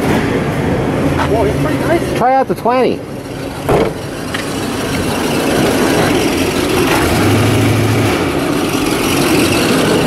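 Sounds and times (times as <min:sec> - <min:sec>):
car engine running: 0:00.8 - 0:10.0.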